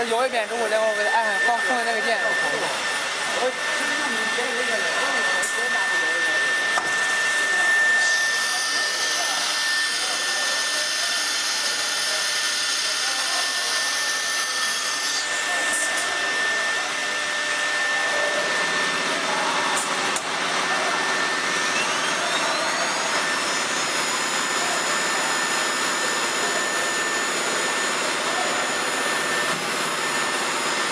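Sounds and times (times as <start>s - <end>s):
steady high machine whine: 0.0s - 30.9s.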